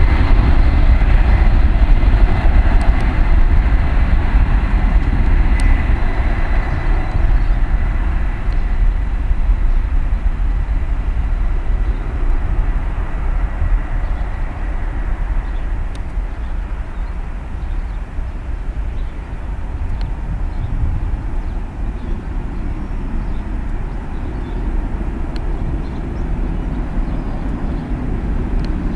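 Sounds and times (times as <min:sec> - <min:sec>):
jet engines at takeoff power: 0:00.0 - 0:28.9.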